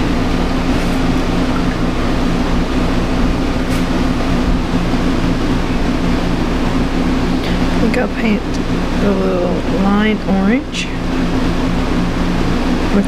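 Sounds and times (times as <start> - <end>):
machine humming and hissing: 0.0 - 13.0.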